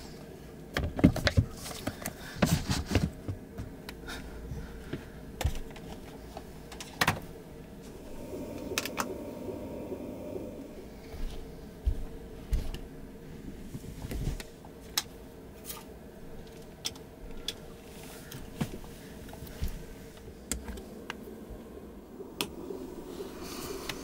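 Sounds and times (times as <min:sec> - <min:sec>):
steady low hum: 0:03.1 - 0:24.0.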